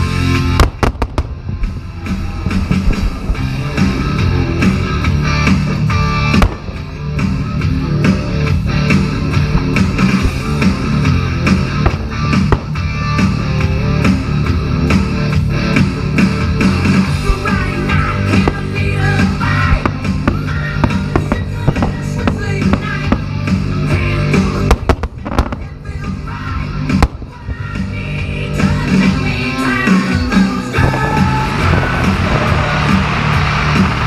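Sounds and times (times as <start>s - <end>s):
drum kit playing: 0.0s - 34.0s
electric guitar: 0.0s - 34.0s.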